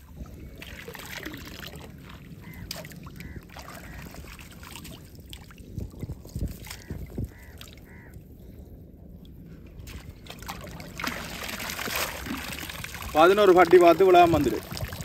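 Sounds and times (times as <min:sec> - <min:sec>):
water splashing: 0:00.0 - 0:07.9, 0:09.8 - 0:15.0.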